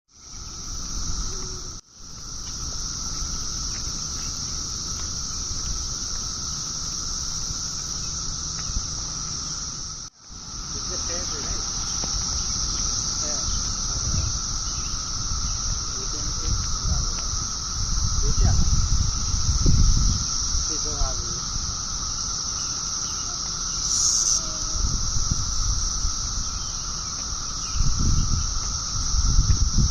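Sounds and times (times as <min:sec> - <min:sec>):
cicada buzzing: 0:00.1 - 0:29.9.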